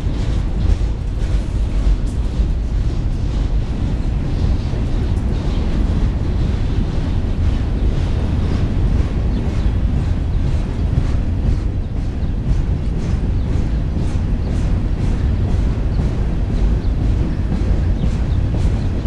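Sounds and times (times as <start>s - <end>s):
freight train cars rumbling past: 0.0s - 19.0s.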